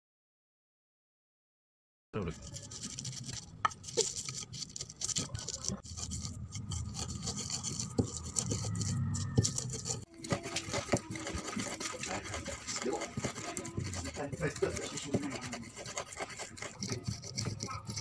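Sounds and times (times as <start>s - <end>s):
stone scraping on stone: 2.2s - 18.0s.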